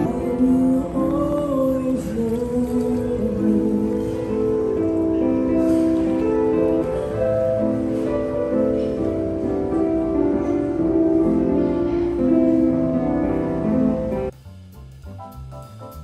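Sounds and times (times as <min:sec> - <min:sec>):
slow gentle background music: 0:00.0 - 0:14.4.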